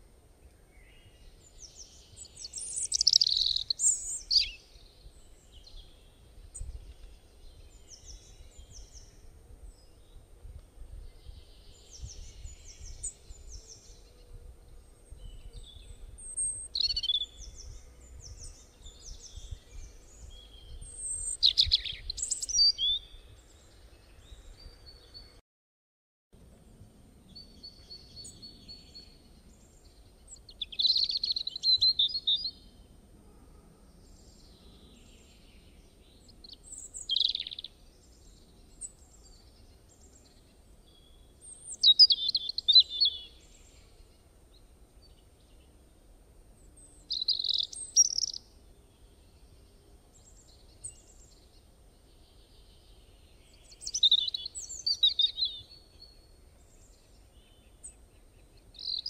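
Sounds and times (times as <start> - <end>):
bird chirping song: 0.0 - 25.4, 26.4 - 59.0.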